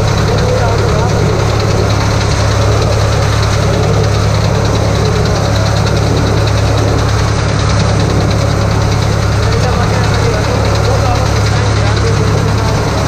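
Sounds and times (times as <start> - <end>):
baler machinery turning: 0.0 - 13.0
tractor engine running: 0.0 - 13.0.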